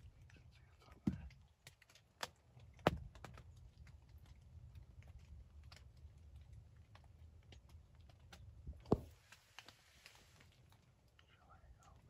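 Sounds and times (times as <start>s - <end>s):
small clicks and taps: 0.0s - 12.0s.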